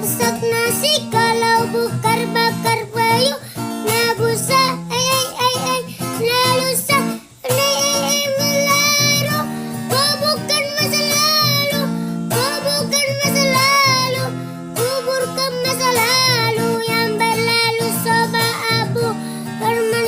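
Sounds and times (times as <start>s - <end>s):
high child-like voice singing: 0.0s - 20.0s
plucked acoustic guitar: 0.0s - 20.0s.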